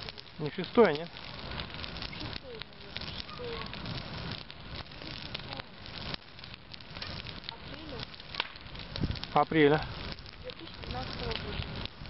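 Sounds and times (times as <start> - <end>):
bonfire crackling and hissing: 0.0 - 12.0
fire popping: 0.0 - 12.0.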